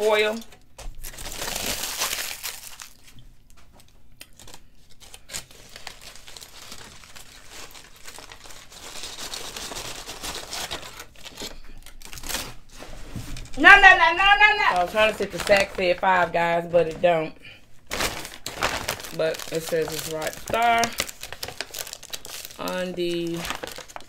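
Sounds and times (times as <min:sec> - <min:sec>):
aluminium foil crinkling: 0:00.0 - 0:24.0.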